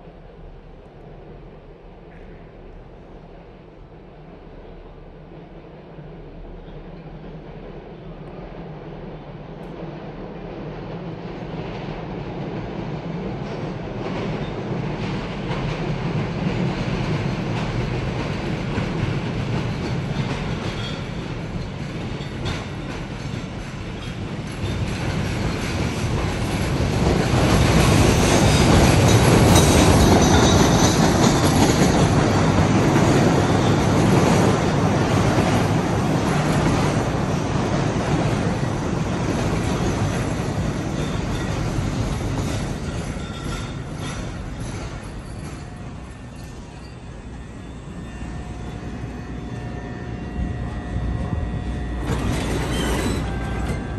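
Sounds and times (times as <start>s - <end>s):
train pulling into station: 0.0s - 53.9s.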